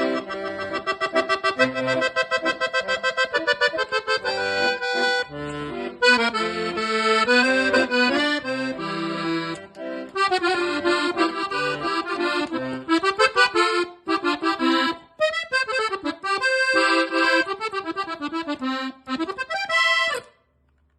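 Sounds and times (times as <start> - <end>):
accordion melody: 0.0 - 20.5.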